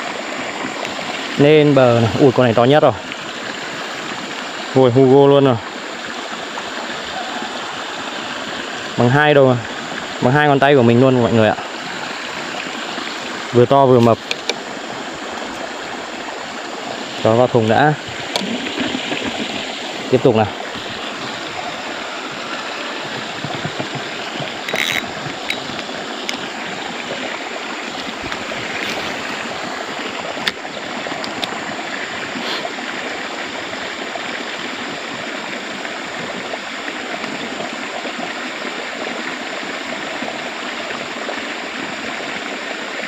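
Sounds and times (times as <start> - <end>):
stream water rushing: 0.0 - 43.0.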